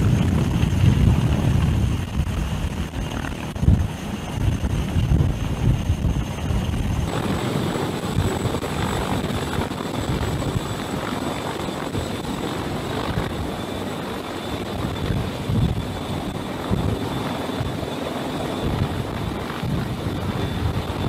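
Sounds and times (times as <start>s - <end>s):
helicopter rotor downwash rushing: 0.0s - 21.0s
high turbine whine: 0.0s - 21.0s.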